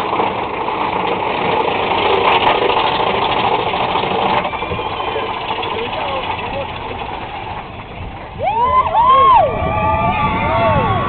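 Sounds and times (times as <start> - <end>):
roller coaster train rumbling and rattling: 0.0 - 11.0.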